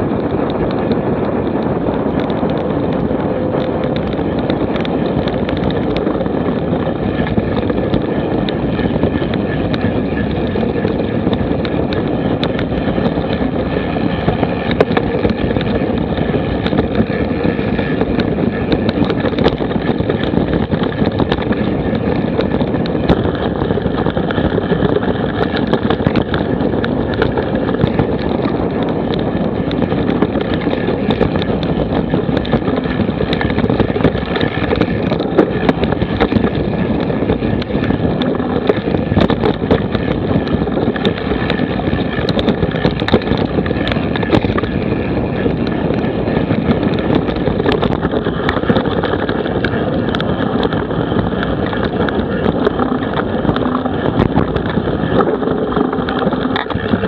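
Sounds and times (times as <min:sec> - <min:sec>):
bike rattles and knocks: 0:00.0 - 0:57.0
tyre rumble: 0:00.0 - 0:57.0
wind buffeting microphone: 0:00.0 - 0:57.0.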